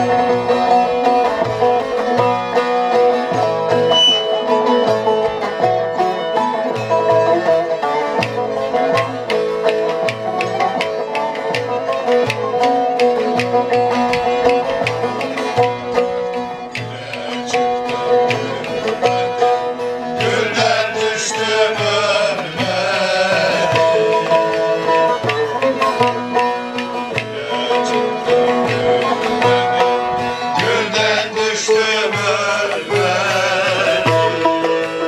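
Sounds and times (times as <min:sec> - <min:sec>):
plucked lutes playing folk melody: 0:00.0 - 0:35.0.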